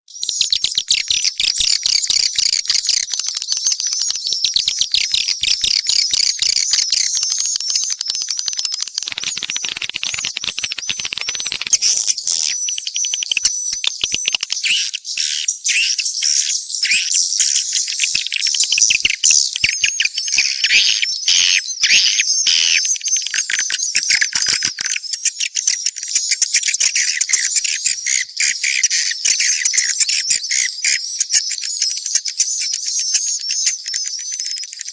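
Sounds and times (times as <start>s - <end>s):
swiftlets twittering and chirping: 0.1s - 34.9s.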